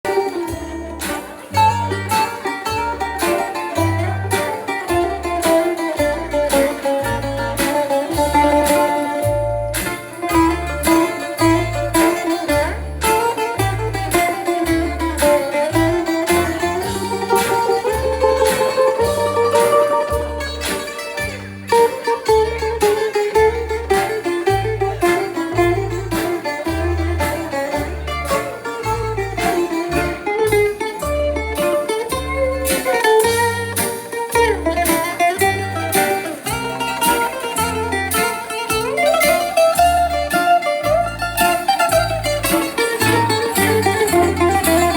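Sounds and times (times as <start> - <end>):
bouzouki dance tune: 0.0 - 44.9
low bass beat: 0.0 - 44.9.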